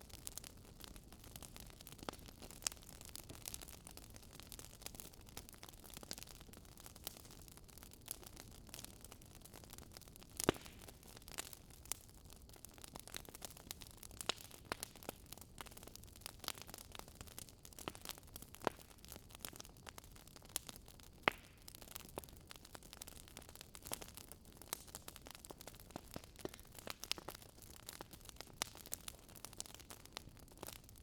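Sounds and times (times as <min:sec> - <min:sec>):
faint wood fire crackling: 0:00.0 - 0:31.0.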